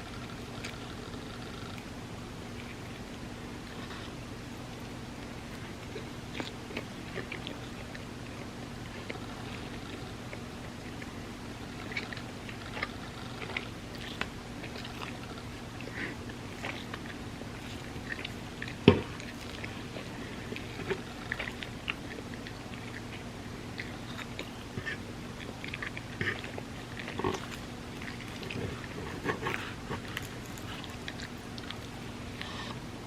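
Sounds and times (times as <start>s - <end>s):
person chewing: 2.5s - 32.8s.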